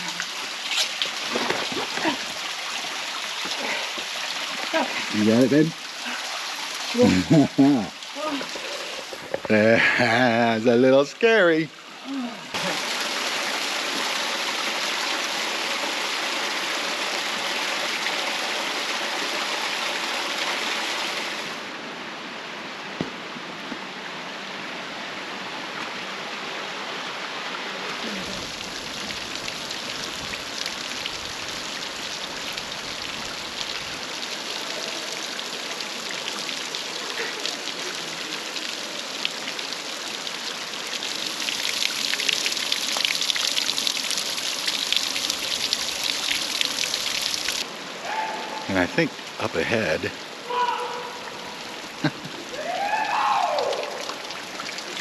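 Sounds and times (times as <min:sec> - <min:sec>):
water splashing down rocky creek: 0:00.0 - 0:21.7, 0:25.4 - 0:55.0.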